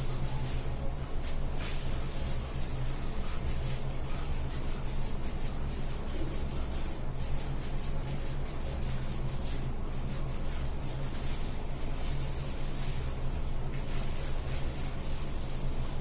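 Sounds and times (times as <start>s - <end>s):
hands scrubbing wet hair: 0.0s - 16.0s.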